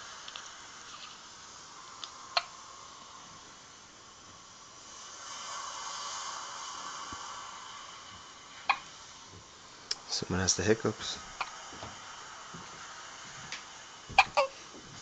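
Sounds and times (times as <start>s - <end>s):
sea waves hissing: 0.0s - 15.0s.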